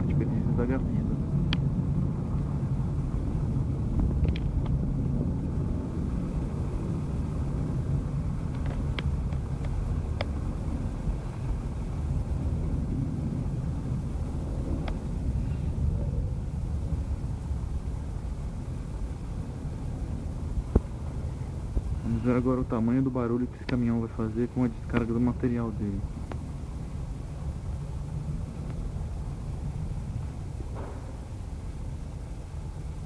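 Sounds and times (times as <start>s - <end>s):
diesel engine idling: 4.8s - 33.0s.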